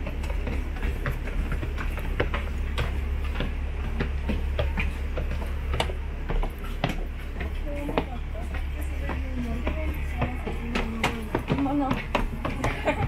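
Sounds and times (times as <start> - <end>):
footsteps on metal-edged stairs: 0.0 - 13.0
steady low hum: 0.0 - 13.0.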